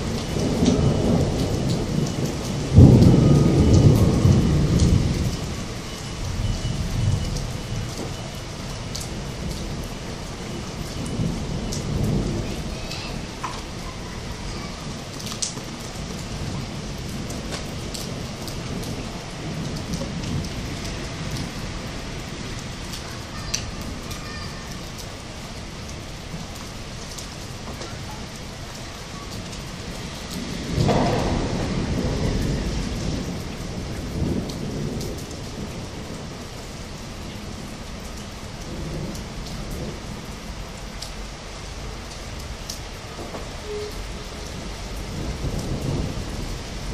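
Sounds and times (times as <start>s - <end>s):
steady rain falling: 0.0s - 46.9s
thunder rumbling: 0.0s - 46.9s.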